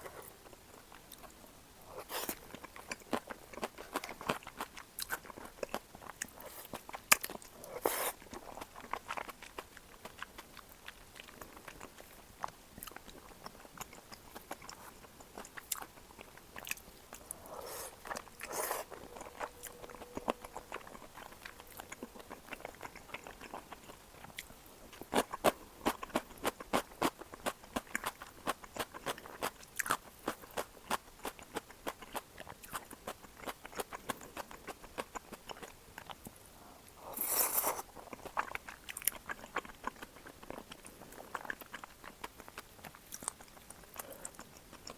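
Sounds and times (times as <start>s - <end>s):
person chewing with wet mouth clicks: 2.0s - 36.4s, 37.1s - 44.9s.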